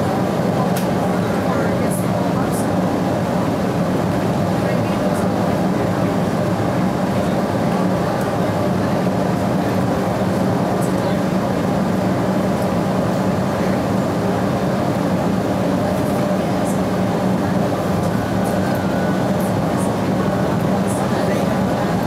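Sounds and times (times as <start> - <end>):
train rolling noise: 0.0 - 22.0.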